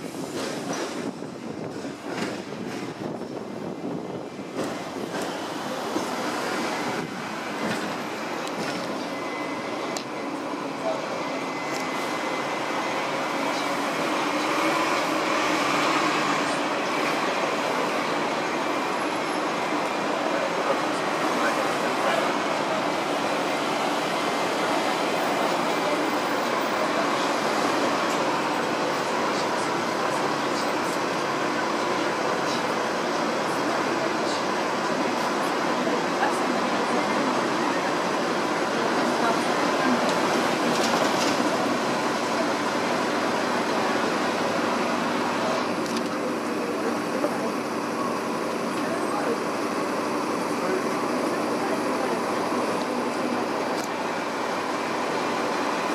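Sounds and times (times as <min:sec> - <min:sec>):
tram running rumble and hiss: 0:00.0 - 0:55.9.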